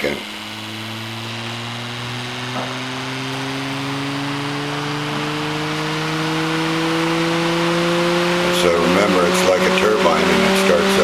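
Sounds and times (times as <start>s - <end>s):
electric motor hum rising in pitch: 0.0s - 11.0s.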